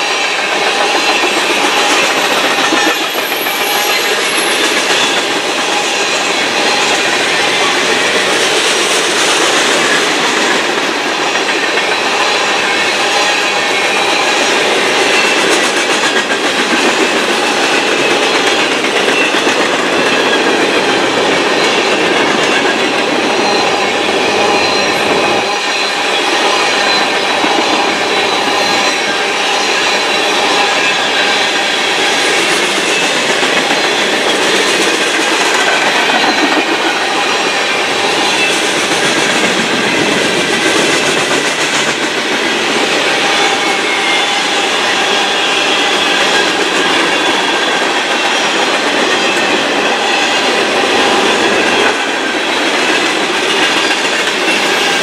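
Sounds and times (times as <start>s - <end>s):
high wheel squeals: 0.0s - 55.0s
train wheels rumbling on rails: 0.0s - 55.0s.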